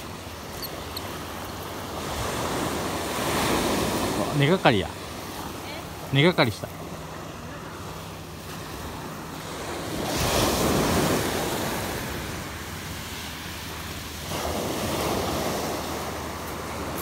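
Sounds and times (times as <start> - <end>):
waves on shingle beach: 0.0 - 17.0.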